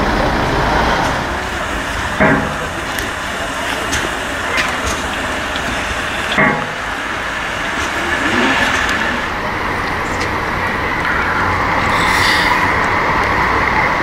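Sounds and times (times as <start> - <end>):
steam train hiss and rumble: 0.0 - 14.0.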